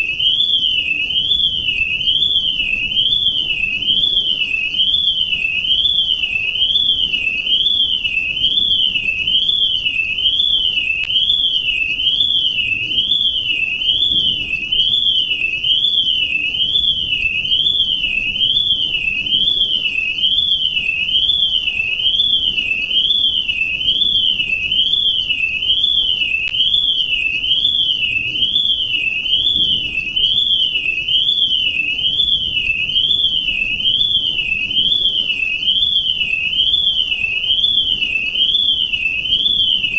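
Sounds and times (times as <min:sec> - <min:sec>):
electronic alarm tone warbling: 0:00.0 - 0:39.9.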